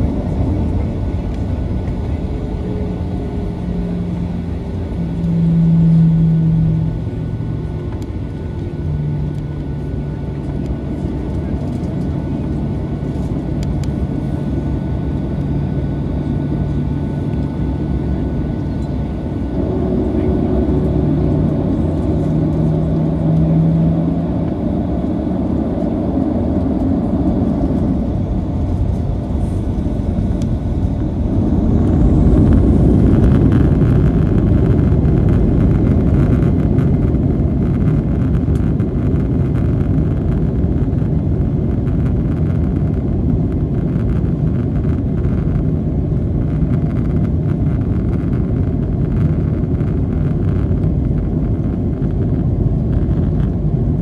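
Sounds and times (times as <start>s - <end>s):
jet engines spooling up: 0.2s - 53.8s.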